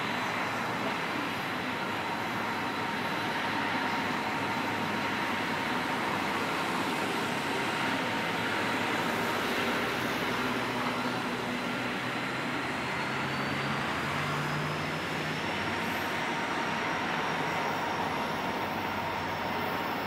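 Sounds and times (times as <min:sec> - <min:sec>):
faint steady tones: 0:00.0 - 0:20.0
urban traffic noise: 0:00.0 - 0:20.0.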